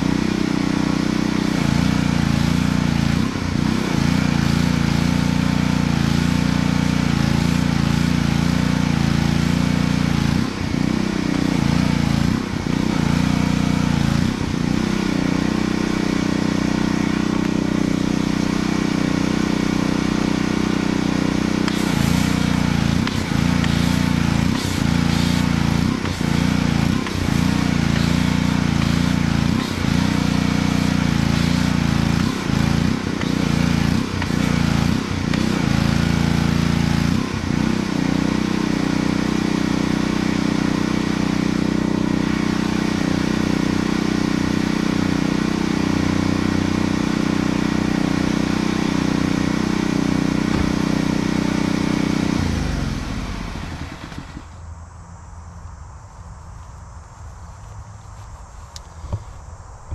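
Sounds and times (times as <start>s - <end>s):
spray hiss: 0.0s - 52.4s
pressure washer running: 0.0s - 54.6s.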